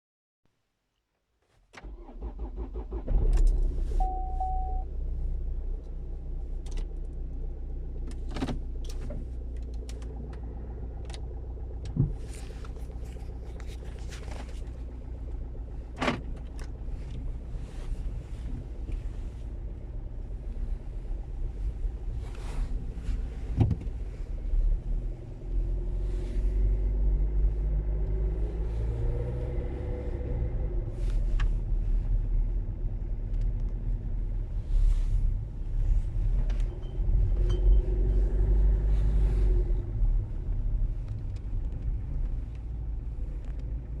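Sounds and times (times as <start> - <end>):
car engine rumbling: 1.5 - 44.0.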